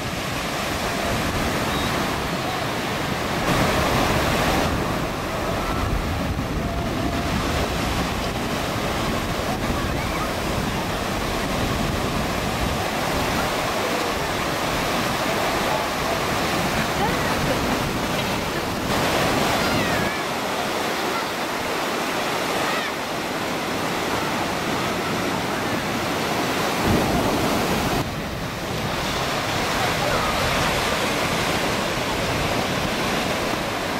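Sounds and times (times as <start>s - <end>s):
ocean surf breaking: 0.0s - 33.9s.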